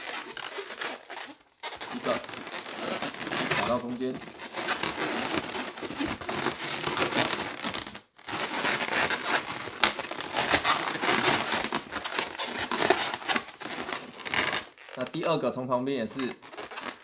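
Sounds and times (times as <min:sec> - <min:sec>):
balloons rubbing together: 0:00.0 - 0:17.0.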